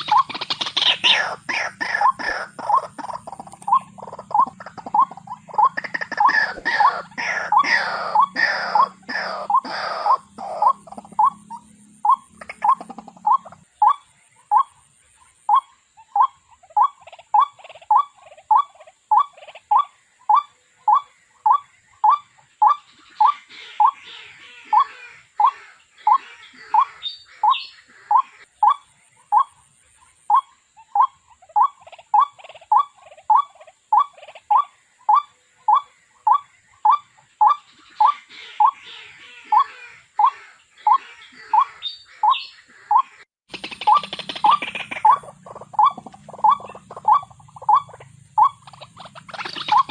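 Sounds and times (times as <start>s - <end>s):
waterhen calling: 0.0s - 49.9s.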